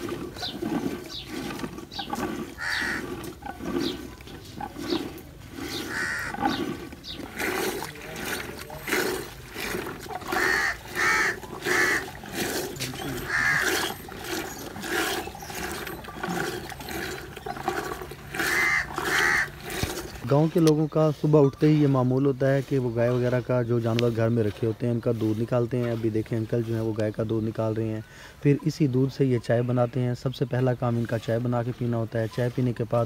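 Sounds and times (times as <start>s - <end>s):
wooden butter churn churning: 0.0s - 28.0s, 28.6s - 33.0s.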